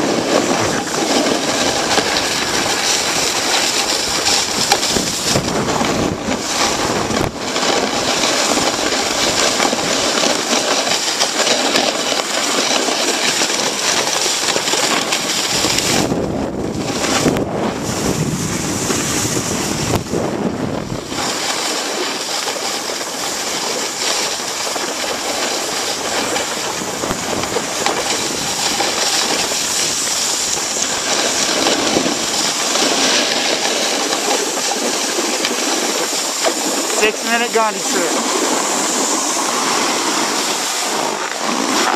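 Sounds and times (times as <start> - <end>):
snowboard sliding over snow: 0.0 - 41.9
wind on microphone: 0.0 - 41.9.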